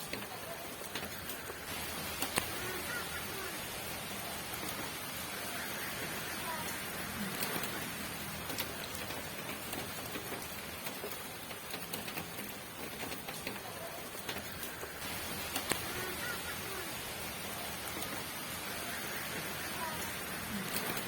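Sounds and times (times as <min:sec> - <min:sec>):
steady rain hissing: 0:00.0 - 0:21.0.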